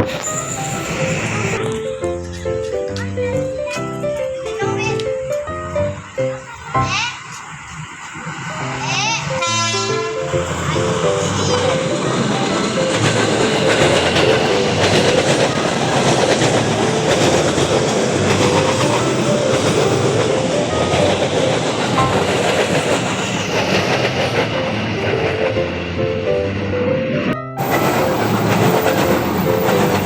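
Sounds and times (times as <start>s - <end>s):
train wheels clattering on rails: 0.0s - 26.5s, 27.6s - 30.0s.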